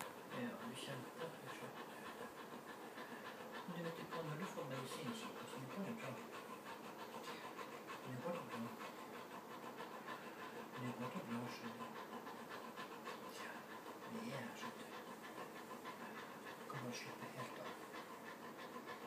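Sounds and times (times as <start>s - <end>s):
dog panting fast: 0.0s - 19.0s.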